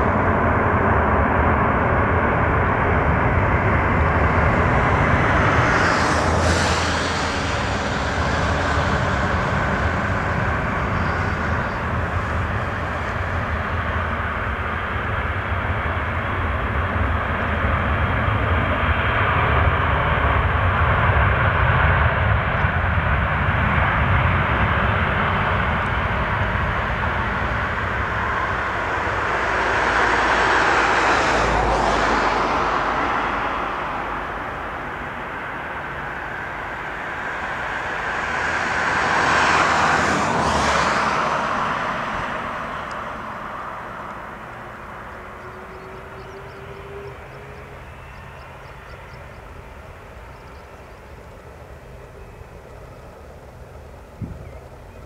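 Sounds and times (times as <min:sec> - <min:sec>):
aircraft whooshing past: 0:00.0 - 0:55.0
jet engines roaring: 0:00.0 - 0:55.0.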